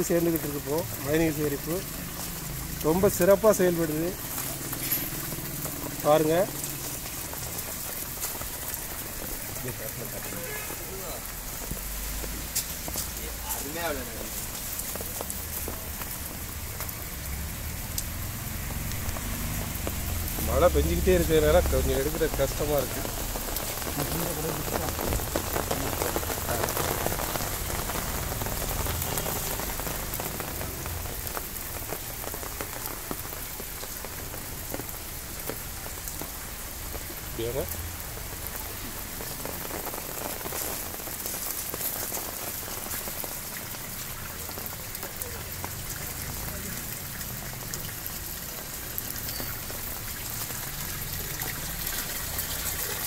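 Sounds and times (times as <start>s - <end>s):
rain on concrete and water: 0.0s - 53.0s.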